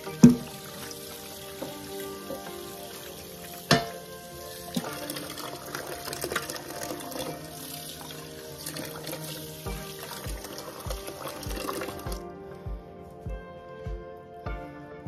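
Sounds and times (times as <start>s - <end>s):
tap water splashing on metal sheet: 0.0s - 12.2s.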